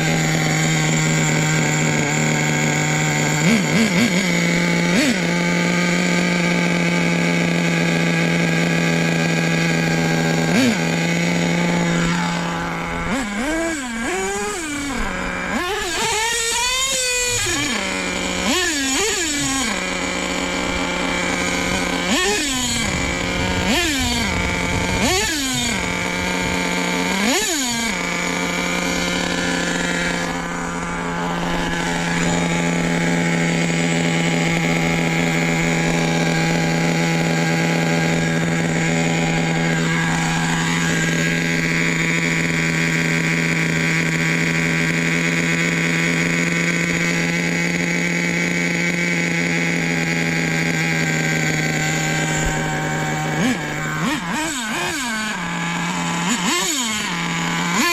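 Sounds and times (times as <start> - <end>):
nitro engine revving and idling: 0.0 - 57.9.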